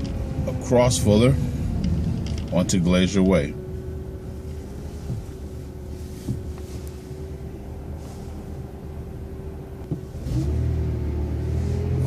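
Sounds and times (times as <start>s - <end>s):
bus engine rumbling: 0.0s - 12.0s
constant hum: 0.0s - 12.0s.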